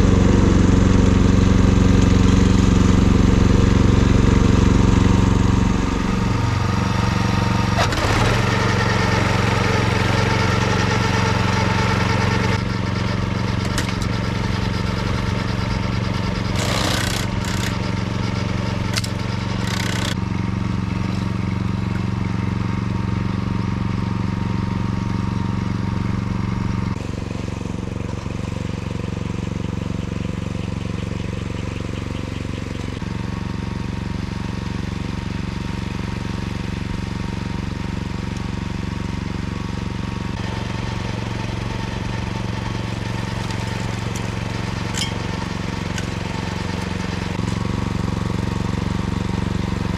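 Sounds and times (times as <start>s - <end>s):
mower cutting grass: 0.0s - 49.9s.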